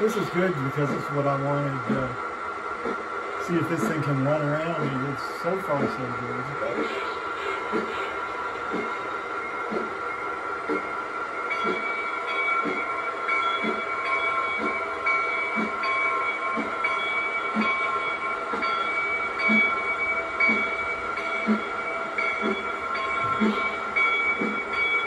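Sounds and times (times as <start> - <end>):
soft knocking of locomotive: 0.0 - 2.2, 2.8 - 25.0
model locomotive whine: 0.0 - 25.0.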